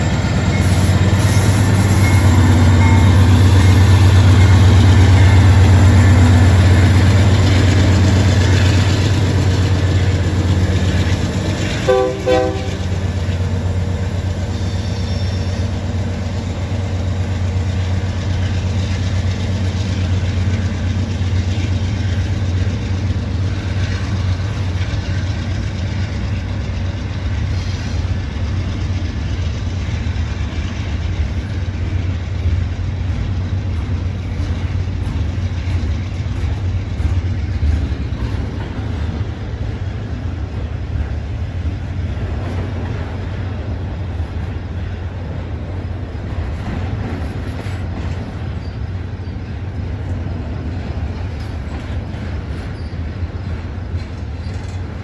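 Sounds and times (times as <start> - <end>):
diesel locomotive engine rumbling: 0.0 - 55.0
train wheels on rails: 0.0 - 55.0.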